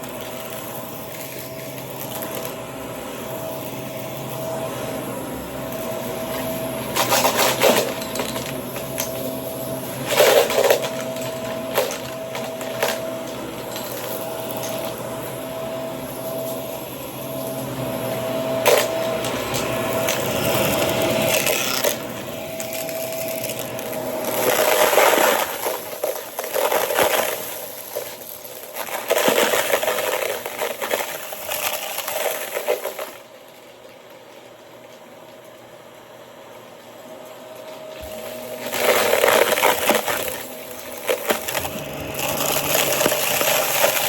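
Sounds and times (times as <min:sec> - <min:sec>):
vacuum cleaner motor whine: 0:00.0 - 0:44.0.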